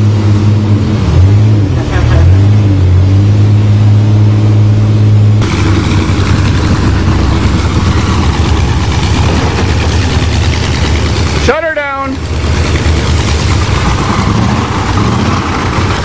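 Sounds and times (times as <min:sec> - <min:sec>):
vehicle engines revving high: 0:00.0 - 0:16.0.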